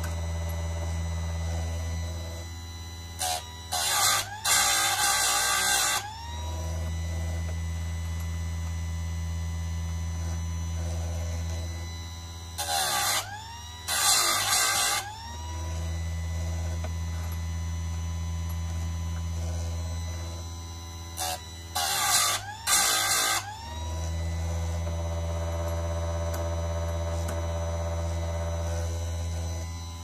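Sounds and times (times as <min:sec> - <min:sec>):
electric motor hum and whine: 0:00.0 - 0:30.0.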